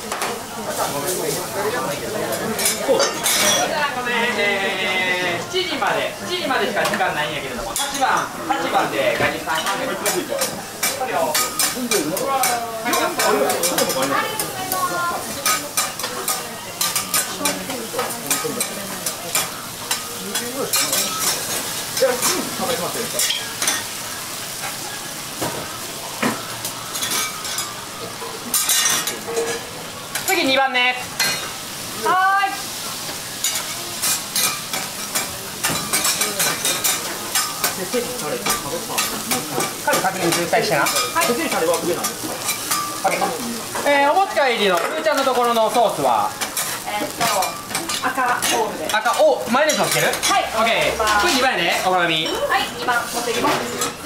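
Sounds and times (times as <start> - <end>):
food sizzling on a griddle: 0.0 - 54.0.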